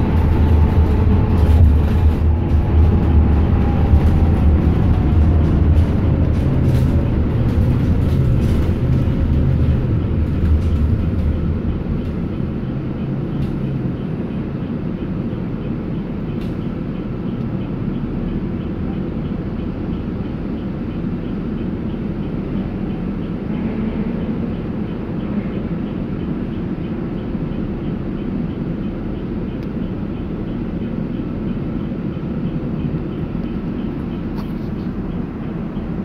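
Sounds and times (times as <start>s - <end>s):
bus engine and road rumble: 0.0s - 36.0s
bus idling hum: 0.0s - 36.0s.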